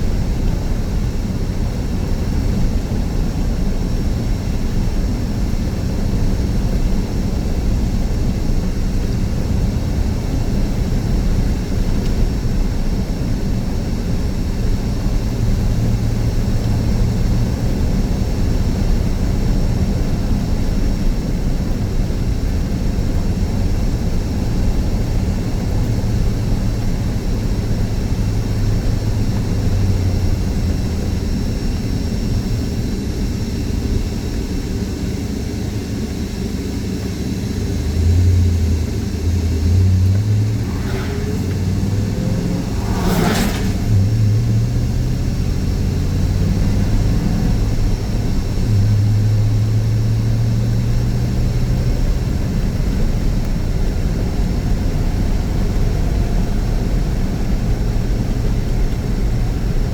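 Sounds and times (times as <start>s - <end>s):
car road and engine drone: 0.0s - 59.9s.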